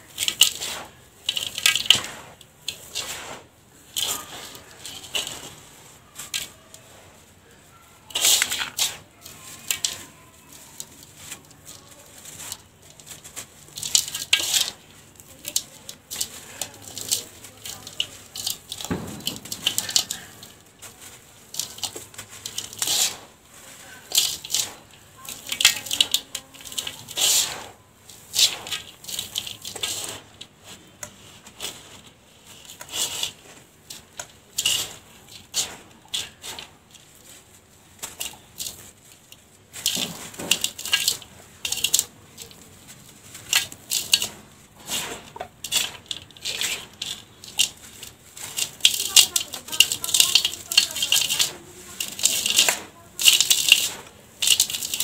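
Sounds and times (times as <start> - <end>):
grains falling with sandy hiss: 0.0 - 55.0.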